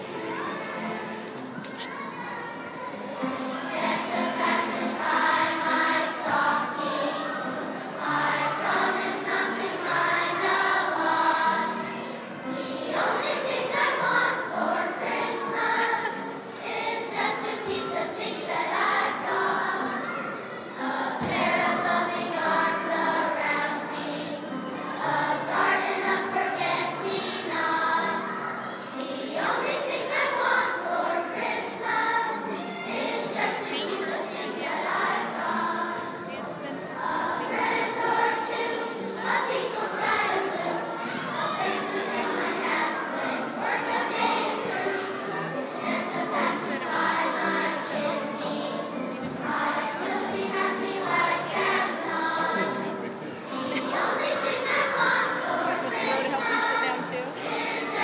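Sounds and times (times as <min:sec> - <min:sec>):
children's choir singing: 0:00.0 - 0:58.0
piano accompaniment: 0:03.0 - 0:58.0.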